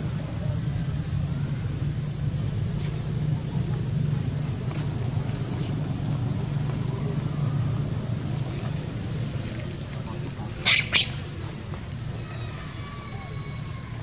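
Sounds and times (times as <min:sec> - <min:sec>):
steady low hum: 0:00.0 - 0:14.0
high insect-like buzz: 0:01.3 - 0:14.0.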